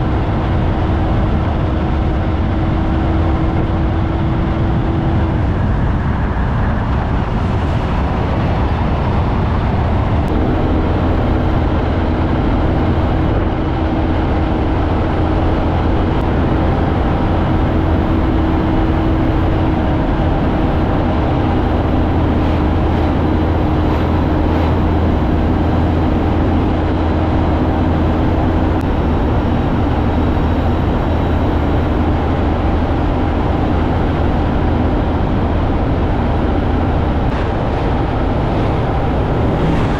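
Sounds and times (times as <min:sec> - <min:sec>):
heavy wind noise: 0:00.0 - 0:39.9
road noise: 0:00.0 - 0:39.9
truck diesel engine drone: 0:00.0 - 0:39.9.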